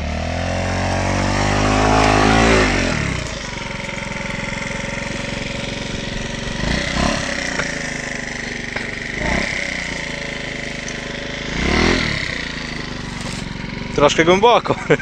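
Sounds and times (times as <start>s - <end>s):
scooter engine revving: 0.0s - 15.0s.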